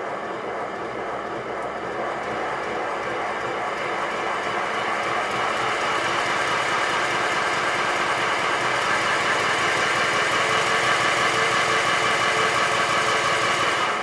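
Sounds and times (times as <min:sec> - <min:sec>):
model locomotive rapid exhaust: 0:02.5 - 0:14.0.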